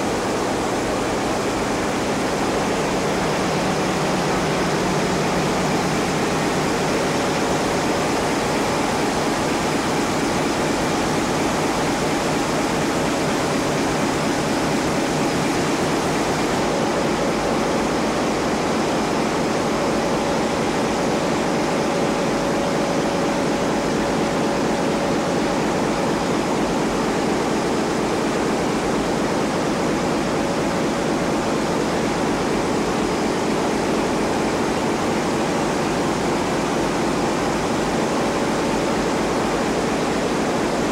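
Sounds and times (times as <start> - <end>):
engine room machinery running: 0.0 - 40.9.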